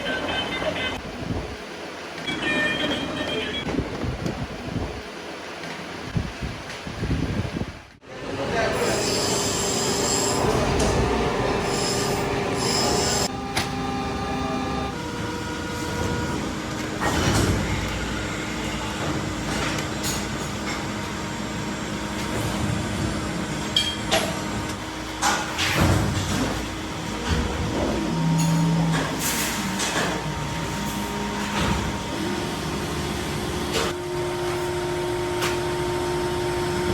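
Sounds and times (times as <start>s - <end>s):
factory machinery hum: 0.0s - 36.9s.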